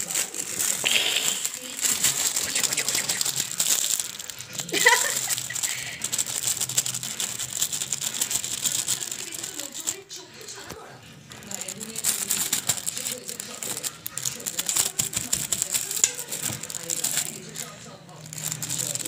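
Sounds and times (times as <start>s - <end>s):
paper and plastic crinkling: 0.0s - 19.0s.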